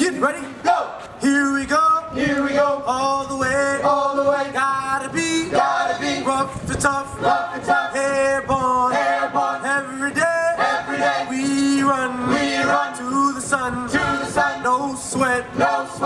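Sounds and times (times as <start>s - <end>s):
male voices singing unaccompanied: 0.6s - 16.0s.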